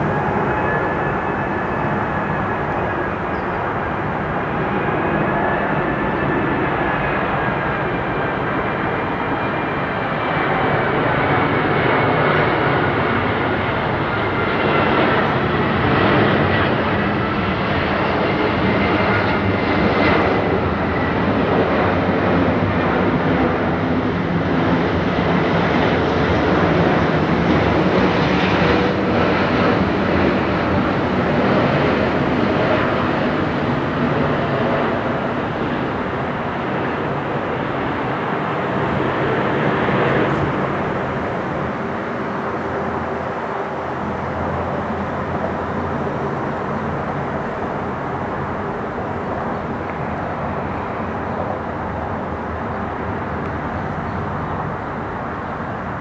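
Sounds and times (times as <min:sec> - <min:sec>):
jet engines roaring and whining: 0:00.0 - 0:56.0.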